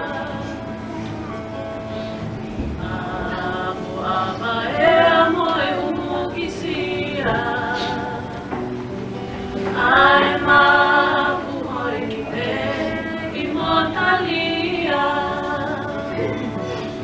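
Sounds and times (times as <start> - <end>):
women singing together: 0.0 - 1.2, 2.5 - 17.0.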